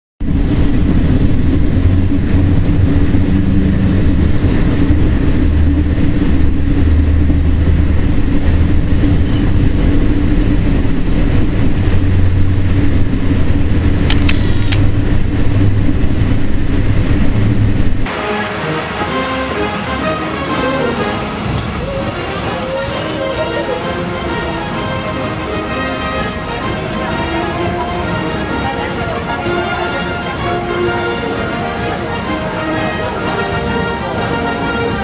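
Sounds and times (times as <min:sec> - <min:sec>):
train rumbling in motion: 0:00.2 - 0:35.0.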